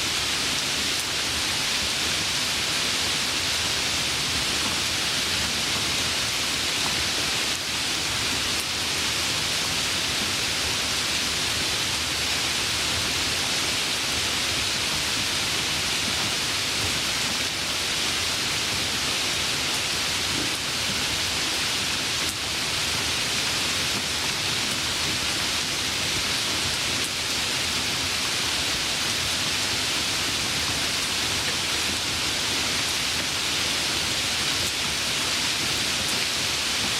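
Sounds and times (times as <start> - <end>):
light rain falling: 0.0 - 36.9.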